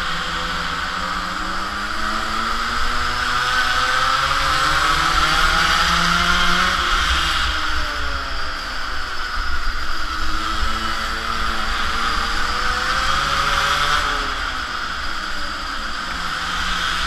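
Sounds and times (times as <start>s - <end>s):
two-stroke engine buzzing: 0.0s - 17.0s.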